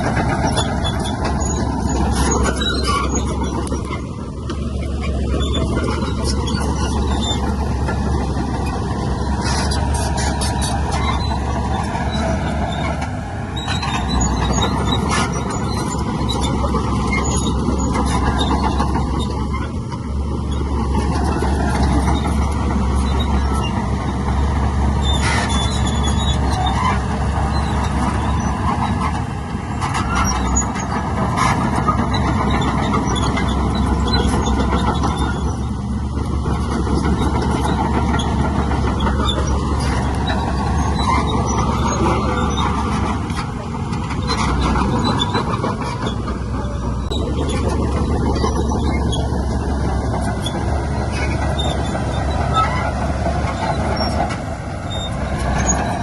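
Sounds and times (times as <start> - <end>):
heavy diesel machinery running: 0.0 - 56.0
metallic clanking and squealing: 0.0 - 56.0.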